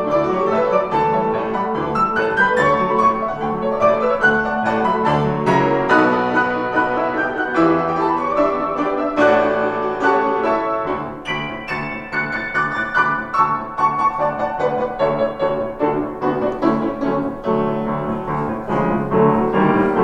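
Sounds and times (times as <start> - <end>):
grand piano playing: 0.0 - 20.0.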